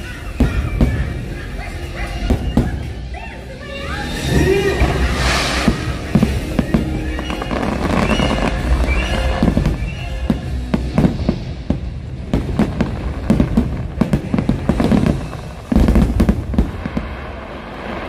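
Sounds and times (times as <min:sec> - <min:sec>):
fireworks bursting: 0:00.0 - 0:18.0
music soundtrack: 0:00.0 - 0:18.0.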